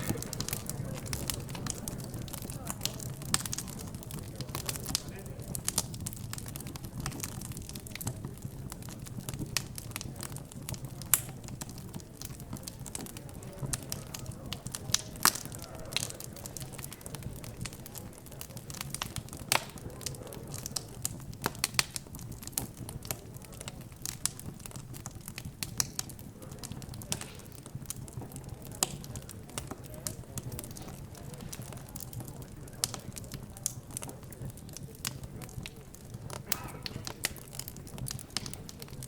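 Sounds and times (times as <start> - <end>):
murmur of background chatter: 0.0 - 39.0
wood fire crackling and popping: 0.0 - 39.0.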